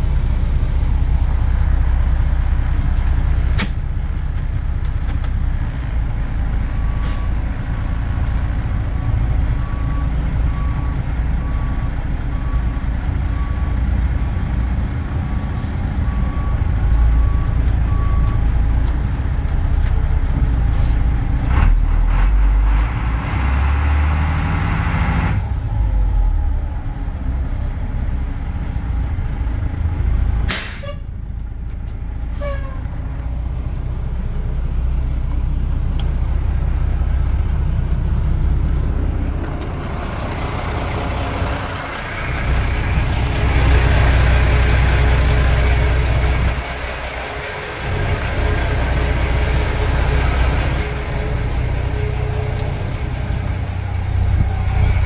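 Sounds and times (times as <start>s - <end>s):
bus engine rumbling: 0.0s - 55.0s.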